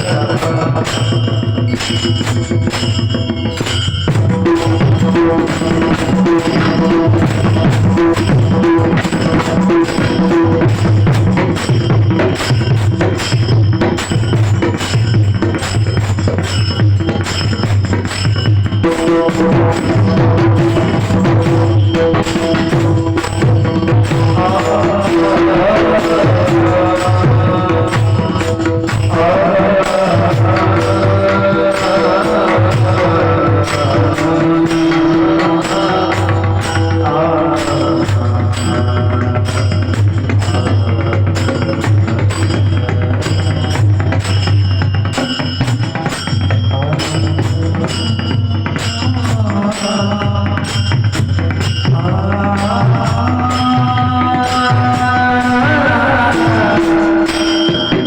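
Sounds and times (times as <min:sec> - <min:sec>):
hand-drum strokes: 0:00.0 - 0:58.0
held melodic tones: 0:00.0 - 0:58.0
small cymbal clashes: 0:00.0 - 0:58.0.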